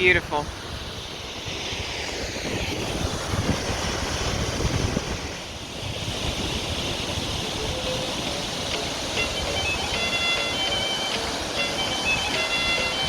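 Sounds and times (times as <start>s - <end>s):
ocean surf washing ashore: 0.0s - 13.0s
wind buffeting microphone: 0.0s - 13.0s.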